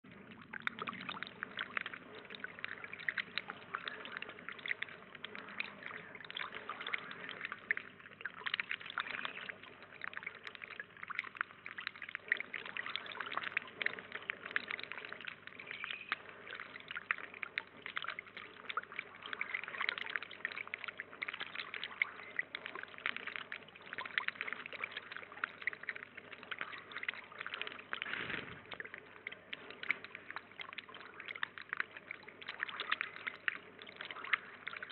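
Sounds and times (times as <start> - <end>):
water trickling into pond: 0.0 - 34.9.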